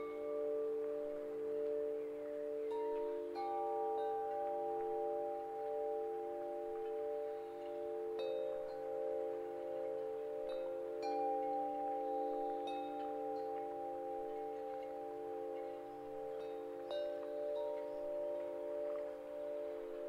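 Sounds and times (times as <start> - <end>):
wind chimes ringing: 0.0 - 20.0.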